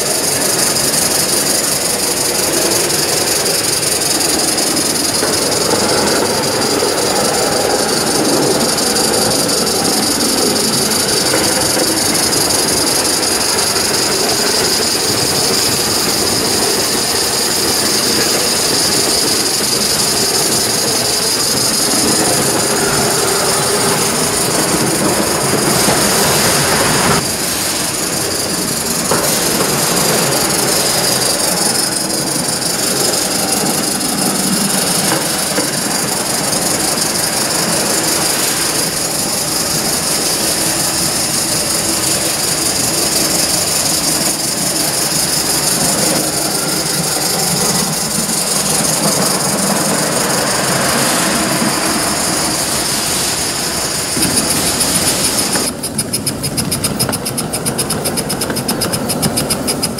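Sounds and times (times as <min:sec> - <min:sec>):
steam hissing: 0:00.0 - 0:59.9
wheels rumbling on rails: 0:00.0 - 0:59.9.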